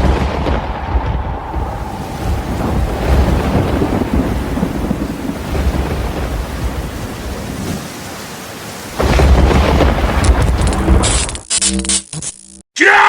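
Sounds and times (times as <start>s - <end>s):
rumbling thunder: 0.0s - 11.1s
rain: 0.0s - 11.5s.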